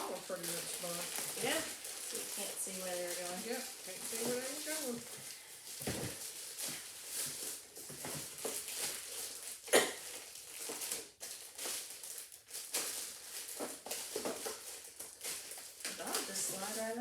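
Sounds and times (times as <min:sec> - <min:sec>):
plastic bag rustling and crinkling: 0:00.0 - 0:17.0.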